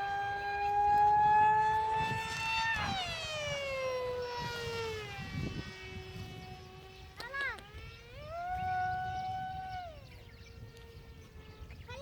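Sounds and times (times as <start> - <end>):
rc plane motor whine: 0.0 - 12.0.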